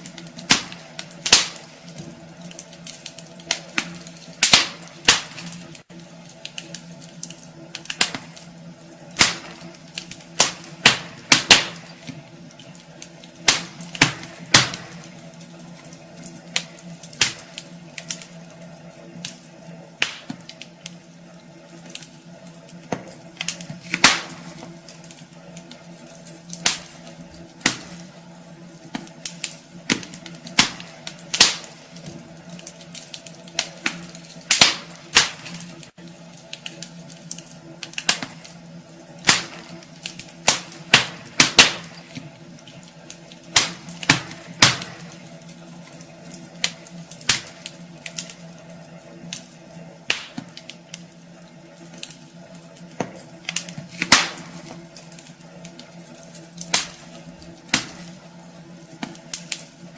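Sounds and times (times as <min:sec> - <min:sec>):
logs crackling and popping: 0:00.0 - 0:59.9
steady low hum: 0:00.0 - 0:59.9.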